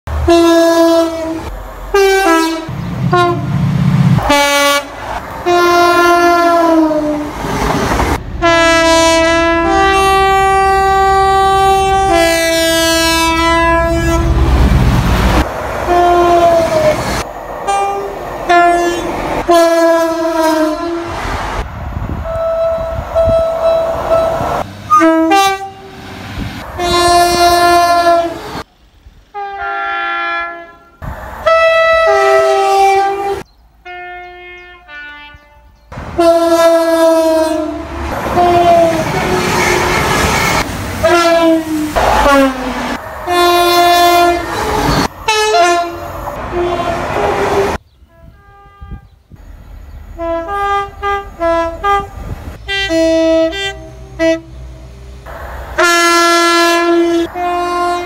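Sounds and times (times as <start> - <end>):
two-tone train horn blasts: 0.1 - 3.6, 4.2 - 7.3, 8.4 - 14.4, 15.9 - 17.0, 17.7 - 21.2, 22.2 - 26.0, 26.6 - 28.6, 29.3 - 49.2, 50.2 - 54.7, 55.8 - 58.0
train rumbling through station: 0.1 - 58.0.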